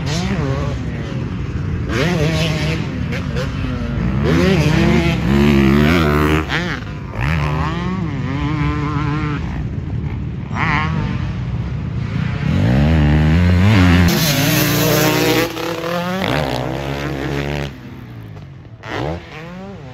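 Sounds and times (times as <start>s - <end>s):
motocross bike engine revving: 0.0s - 19.9s.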